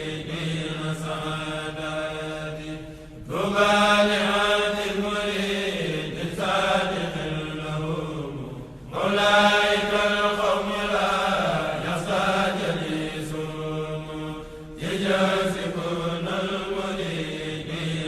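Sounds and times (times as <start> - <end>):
religious chanting: 0.0 - 18.0.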